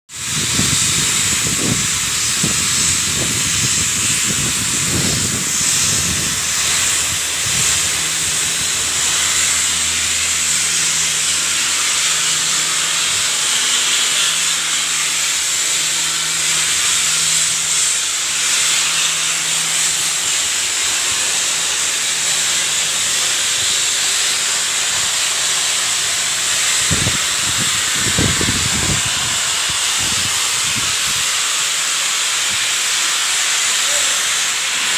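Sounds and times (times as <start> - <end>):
loud steady hissing: 0.1 - 34.9.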